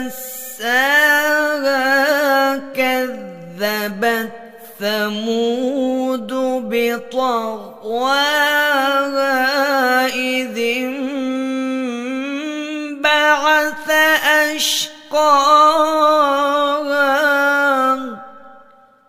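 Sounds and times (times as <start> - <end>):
person chanting melodically: 0.0 - 18.9.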